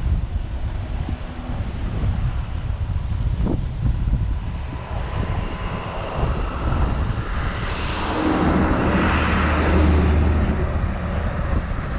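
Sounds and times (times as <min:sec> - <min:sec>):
low rumble: 0:00.0 - 0:11.9
wind buffeting microphone: 0:00.0 - 0:11.9.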